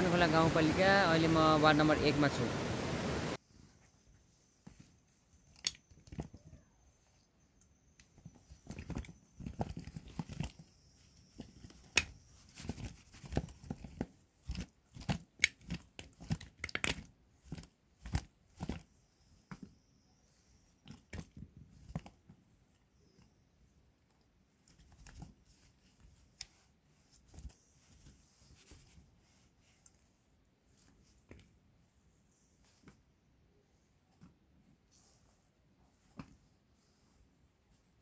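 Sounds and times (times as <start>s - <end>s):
rustling handling: 3.4s - 23.4s, 24.4s - 38.0s.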